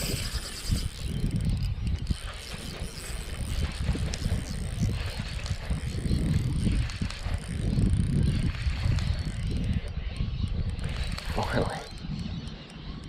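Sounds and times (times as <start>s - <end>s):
fishing reel whirring and ticking: 0.0s - 13.0s
wind buffeting microphone: 0.0s - 13.0s.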